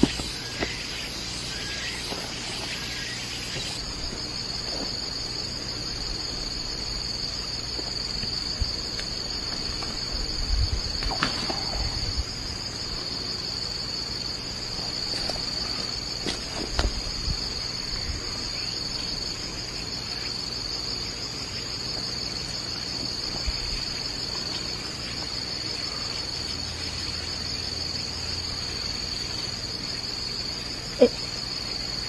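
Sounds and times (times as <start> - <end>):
forest insects droning: 0.0 - 32.0.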